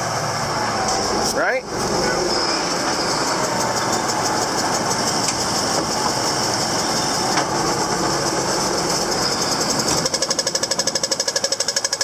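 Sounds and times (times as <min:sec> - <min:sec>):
tractor engine noise: 0:00.0 - 0:12.0
baler mechanical clatter: 0:01.8 - 0:12.0.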